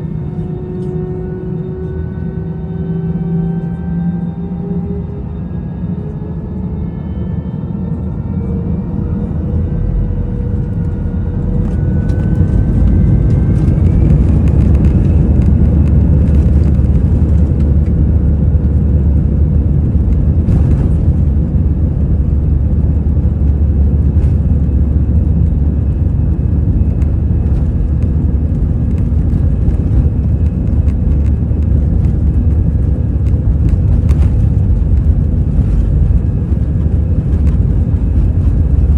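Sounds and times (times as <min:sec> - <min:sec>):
jet engines spooling up: 0:06.1 - 0:38.9.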